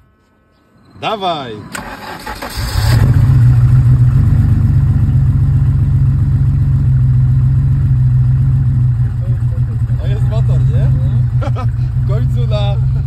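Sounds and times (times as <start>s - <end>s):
car engine starting and running: 1.5s - 13.0s.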